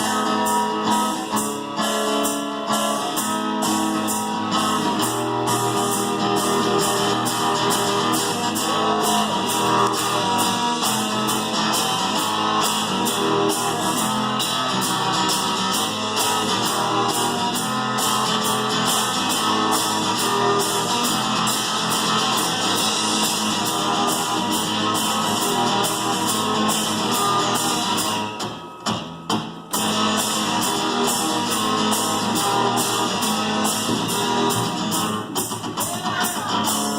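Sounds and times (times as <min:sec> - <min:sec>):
cajon and cymbal percussion: 0:00.0 - 0:36.9
strummed guitar: 0:00.0 - 0:36.9.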